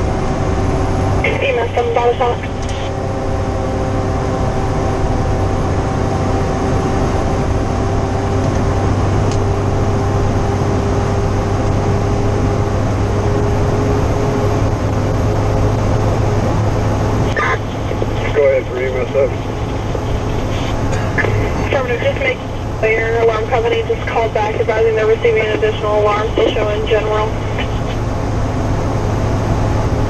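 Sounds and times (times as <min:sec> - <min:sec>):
engine drone: 0:00.0 - 0:30.0
tyre and road noise: 0:00.0 - 0:30.0.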